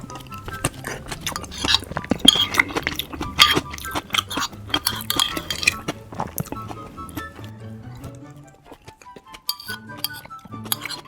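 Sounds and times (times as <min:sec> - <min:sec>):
utensils clinking against dishes: 0:00.0 - 0:07.4, 0:09.5 - 0:11.0
chewing: 0:00.0 - 0:11.0.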